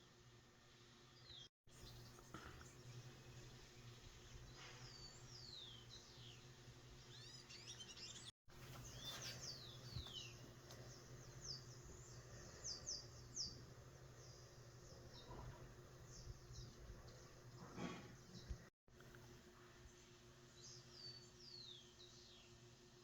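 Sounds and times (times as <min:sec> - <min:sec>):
low steady hum: 0:00.0 - 0:23.0
small birds chirping: 0:01.1 - 0:23.0.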